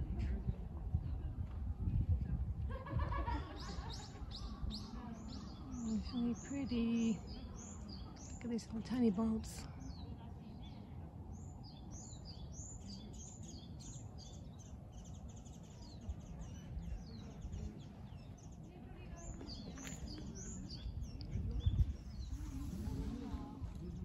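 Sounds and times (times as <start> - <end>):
small birds chirping: 3.2 - 24.0.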